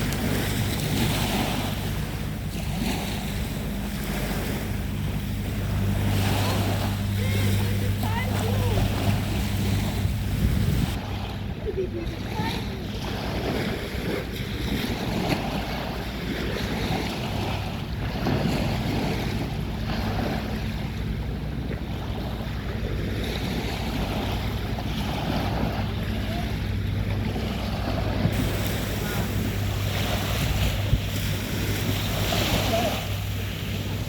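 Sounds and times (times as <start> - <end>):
steady low drone: 0.0 - 34.0
waves washing onto beach: 0.0 - 34.0
wind buffeting microphone: 0.0 - 34.0.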